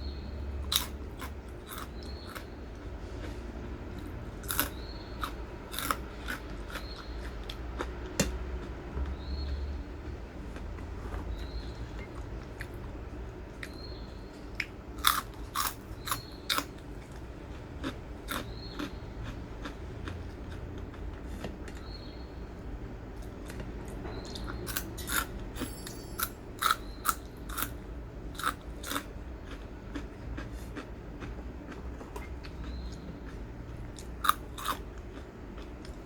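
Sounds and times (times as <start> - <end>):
crunching crisp food: 0.6 - 9.6, 13.5 - 22.2, 23.2 - 36.0.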